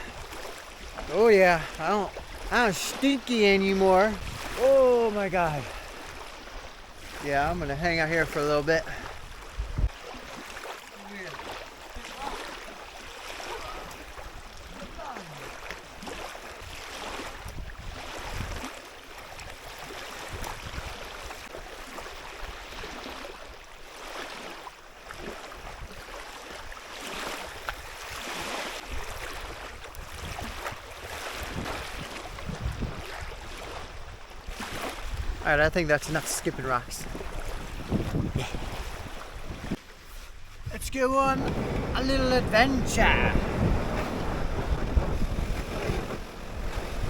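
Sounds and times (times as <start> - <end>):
small waves lapping: 0.0 - 47.0.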